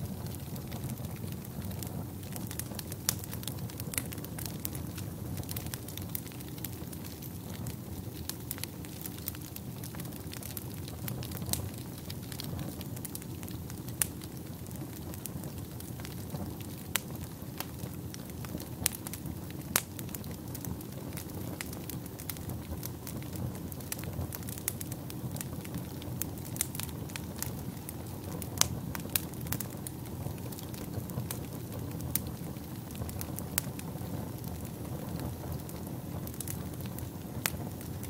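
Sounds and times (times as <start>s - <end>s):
fire crackling and popping: 0.0s - 38.0s
fire flames rushing: 0.0s - 38.0s.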